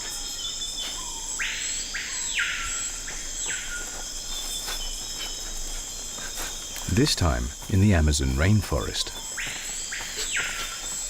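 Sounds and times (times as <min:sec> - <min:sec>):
harsh buzzing calls: 0:00.0 - 0:11.0
high-pitched insect chorus: 0:00.0 - 0:11.0.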